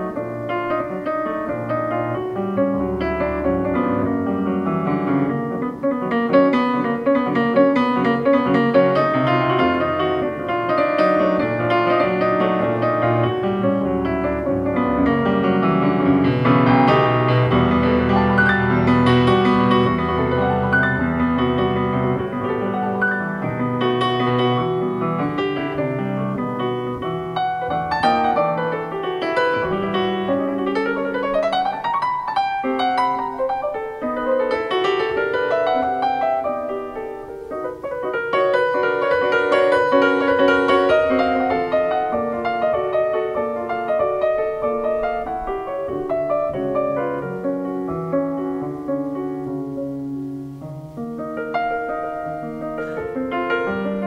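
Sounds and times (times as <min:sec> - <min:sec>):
grand piano playing: 0:00.0 - 0:54.0.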